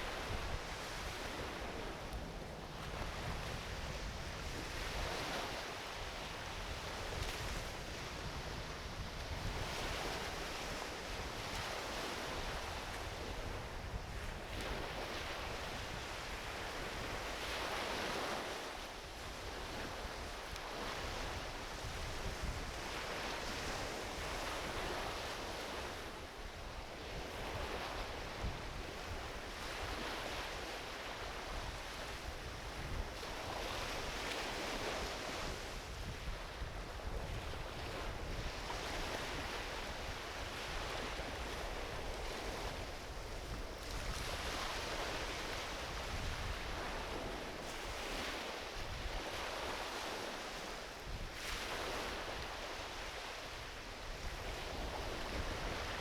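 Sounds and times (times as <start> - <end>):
small waves washing onto beach: 0.0 - 56.0
wind rumble on microphone: 0.0 - 56.0.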